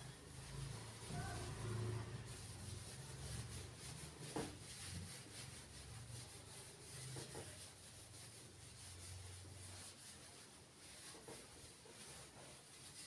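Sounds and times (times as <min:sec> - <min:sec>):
eraser rubbing on whiteboard: 0:00.0 - 0:13.0.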